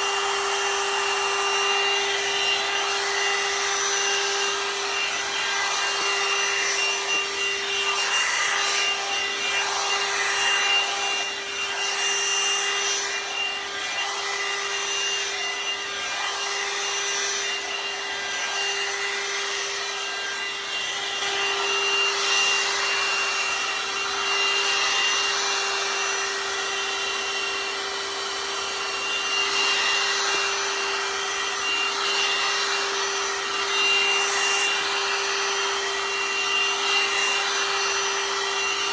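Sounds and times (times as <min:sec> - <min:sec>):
hair dryer motor whine: 0:00.0 - 0:38.9.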